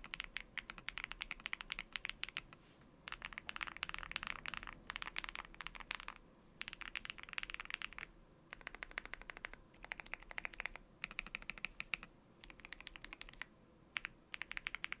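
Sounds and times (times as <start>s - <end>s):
typing on mechanical keyboard: 0.0s - 2.5s, 3.1s - 15.0s.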